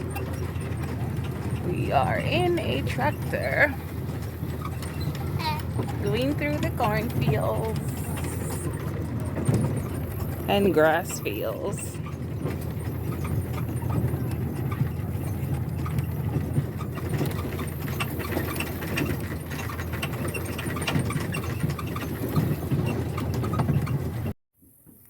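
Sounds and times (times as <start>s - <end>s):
small rattles and knocks: 0.0s - 25.0s
tractor engine rumbling: 0.0s - 25.0s.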